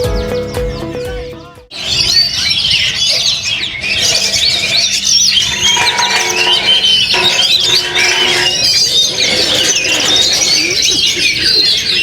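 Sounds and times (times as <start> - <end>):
birds singing chirps and trills: 0.0 - 12.0.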